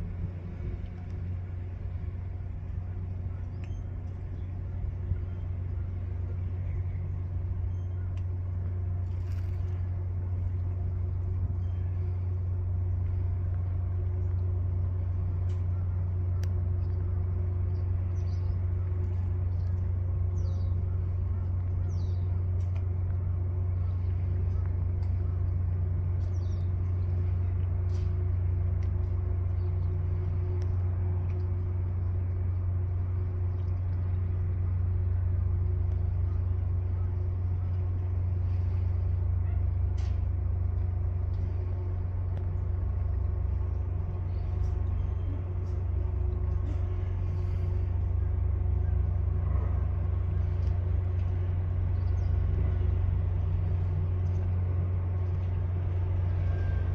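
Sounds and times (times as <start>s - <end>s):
ferry engines droning: 0.0s - 56.9s.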